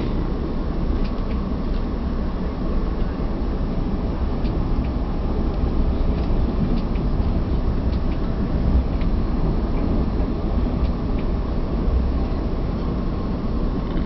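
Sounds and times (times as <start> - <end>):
train rumbling from inside coach: 0.0 - 14.0.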